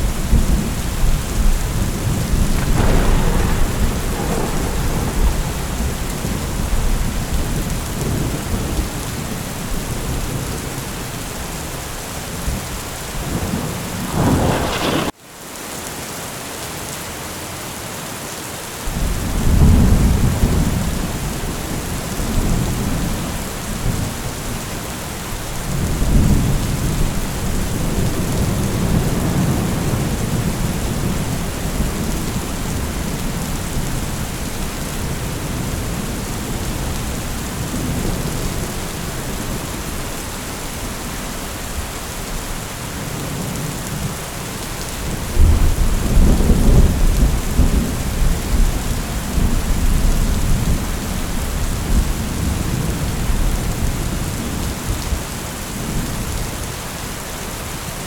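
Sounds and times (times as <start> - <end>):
low rolling thunder: 0.0 - 15.2, 18.9 - 44.3, 44.9 - 56.8
steady rain: 0.0 - 58.0.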